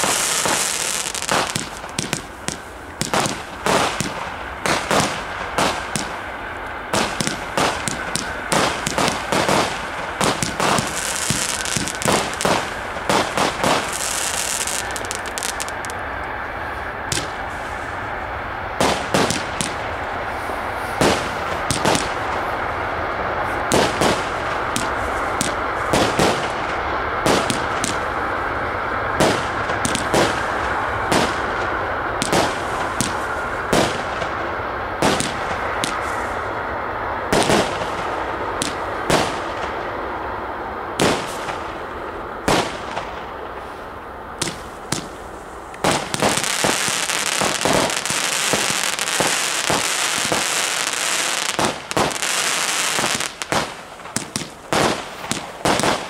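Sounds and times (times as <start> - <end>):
firework shells banging: 0.0 - 22.6, 23.5 - 36.5, 37.3 - 39.8, 41.0 - 43.8, 44.4 - 56.0
dense high crackling of fireworks: 0.0 - 56.0
rumbling hiss: 0.0 - 56.0.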